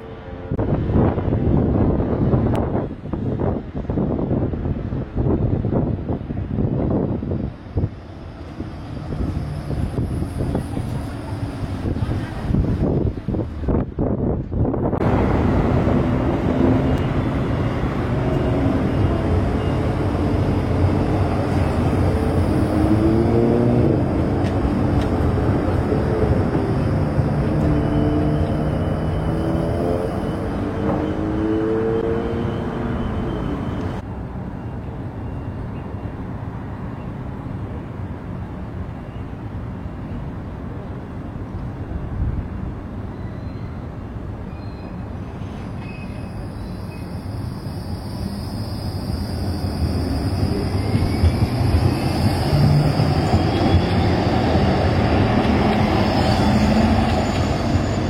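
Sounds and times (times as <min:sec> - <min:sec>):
tram rumbling: 0:00.0 - 0:58.0.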